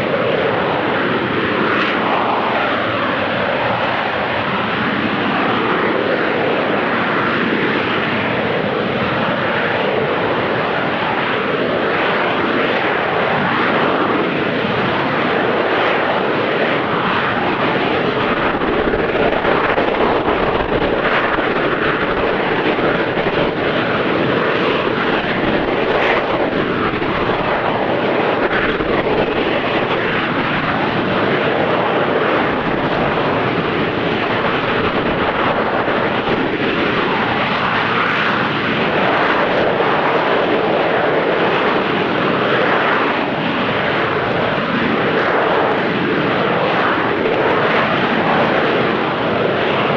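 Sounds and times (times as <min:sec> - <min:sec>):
jet engine hovering: 0:00.0 - 0:49.9.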